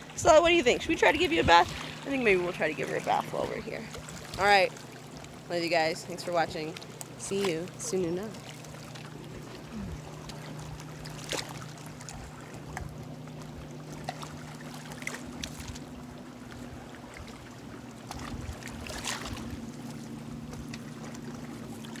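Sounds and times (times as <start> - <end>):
motorboat engine humming: 0.0 - 22.0
waves lapping against a dock: 0.0 - 22.0.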